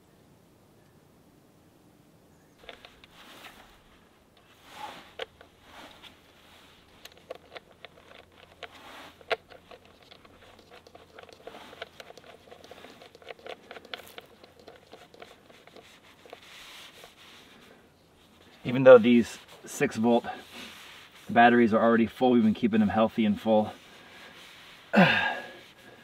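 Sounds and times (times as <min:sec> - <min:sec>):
faint rustling: 0:02.6 - 0:26.0.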